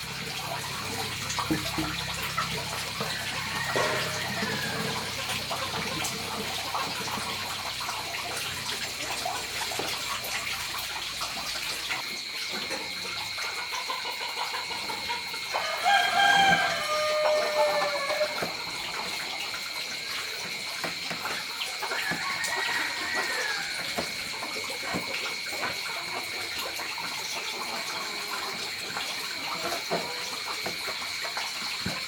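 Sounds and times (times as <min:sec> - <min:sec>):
water running and splashing: 0:00.0 - 0:32.0.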